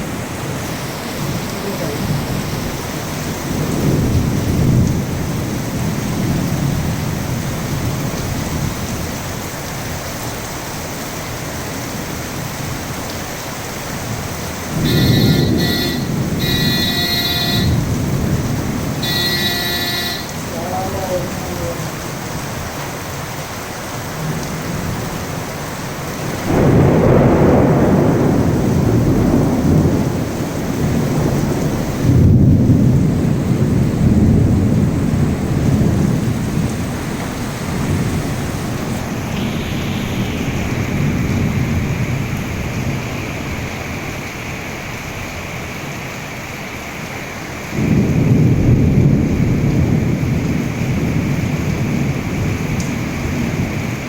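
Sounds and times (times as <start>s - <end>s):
thunder rumbling: 0.0s - 22.8s, 24.1s - 45.1s, 47.7s - 54.0s
heavy rain falling: 0.0s - 54.0s.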